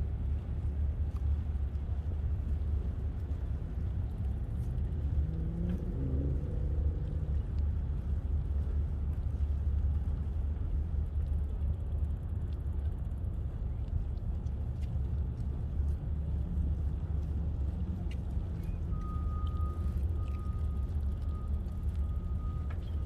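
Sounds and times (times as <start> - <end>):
wind and riding noise: 0.0 - 23.0.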